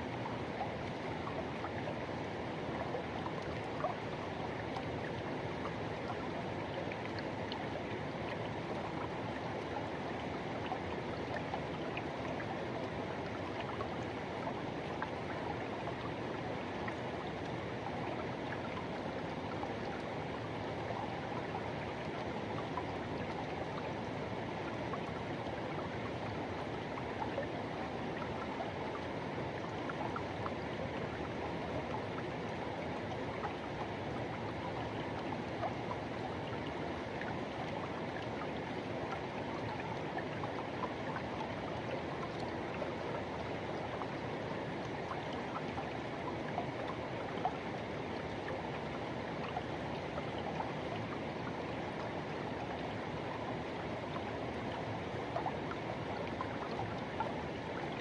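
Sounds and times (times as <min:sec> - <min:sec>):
small water splashes: 0:00.0 - 0:58.0.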